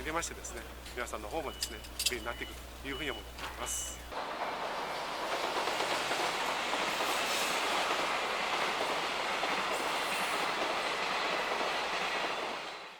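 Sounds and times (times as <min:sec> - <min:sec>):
train rail and wheel noise: 0:00.0 - 0:12.9.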